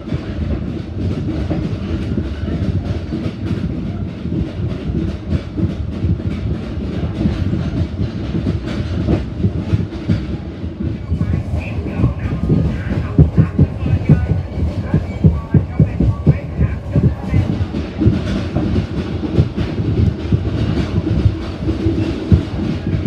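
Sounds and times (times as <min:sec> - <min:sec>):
train carriage rumbling: 0:00.0 - 0:23.0.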